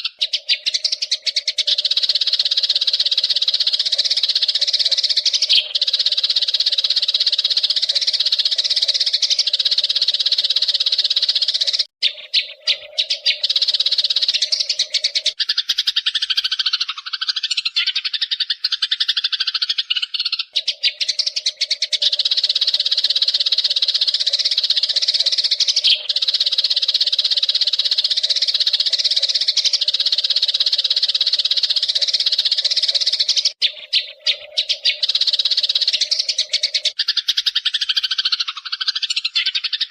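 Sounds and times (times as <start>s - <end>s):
low wavering bird calls: 0.0s - 39.9s
sparrows chirping: 0.0s - 39.9s.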